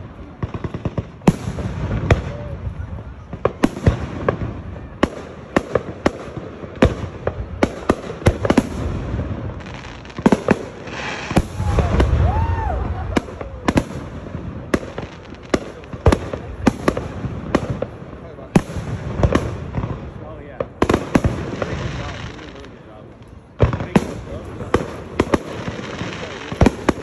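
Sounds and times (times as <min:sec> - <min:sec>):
fireworks bursting overhead: 0:00.0 - 0:27.0.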